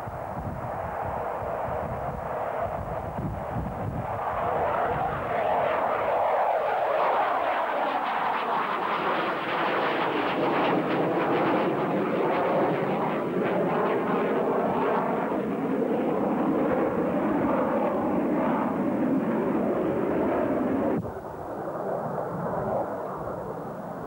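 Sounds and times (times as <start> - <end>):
jet flying overhead: 0.0 - 24.0.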